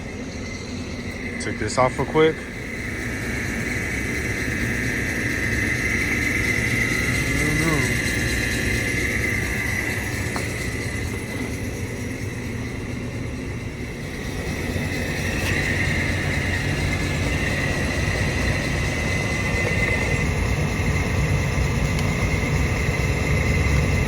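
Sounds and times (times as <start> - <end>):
air handling blower rumble and whine: 0.0 - 24.0.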